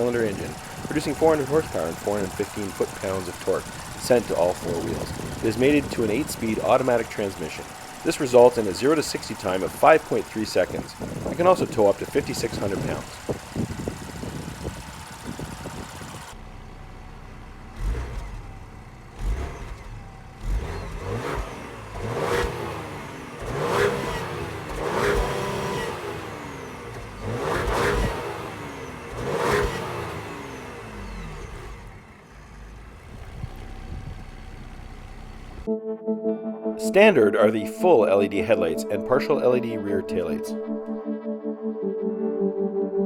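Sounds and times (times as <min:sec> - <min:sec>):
car engine idling and revving: 0:00.0 - 0:35.7.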